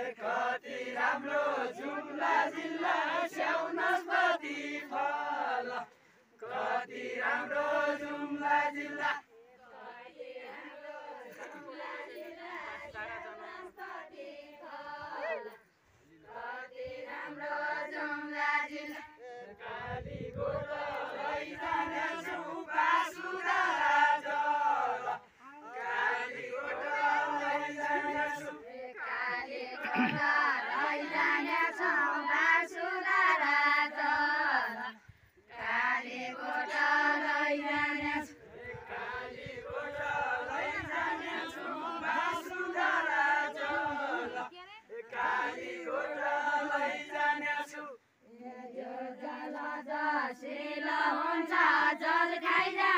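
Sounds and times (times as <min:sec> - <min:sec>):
men singing unaccompanied: 0:00.0 - 0:15.6, 0:16.2 - 0:52.9.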